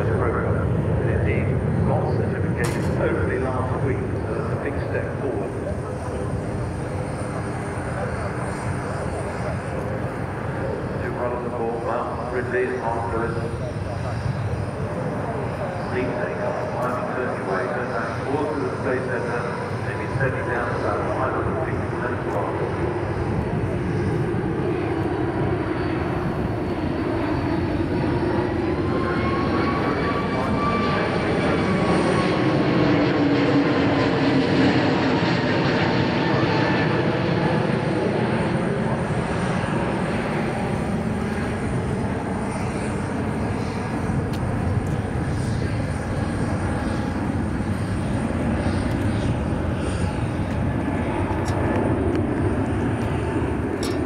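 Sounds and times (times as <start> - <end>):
jet airliner flying past: 0.0 - 54.0
jet engine whine: 0.0 - 54.0.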